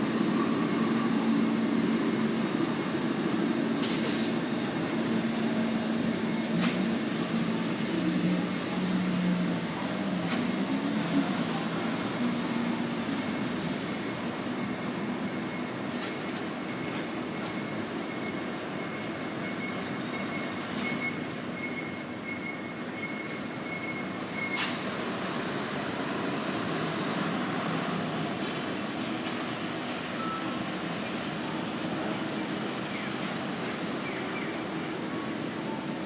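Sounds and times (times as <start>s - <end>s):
tram running along track: 0.0s - 36.0s.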